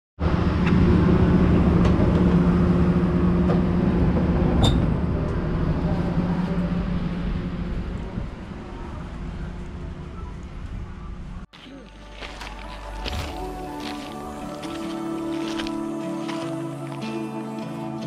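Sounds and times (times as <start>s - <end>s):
train carriage rumble: 0.2s - 17.6s.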